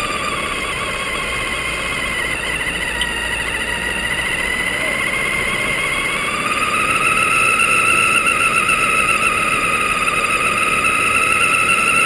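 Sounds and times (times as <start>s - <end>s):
toy car motor whining: 0.0s - 12.0s
tyres rushing on pavement: 0.0s - 12.0s.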